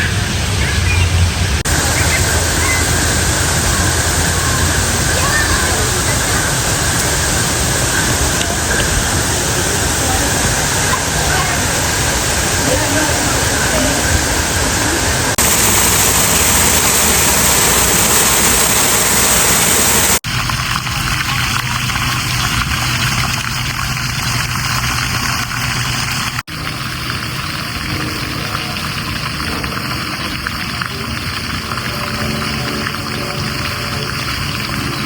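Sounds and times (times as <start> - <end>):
fountain water rushing: 0.0 - 35.0.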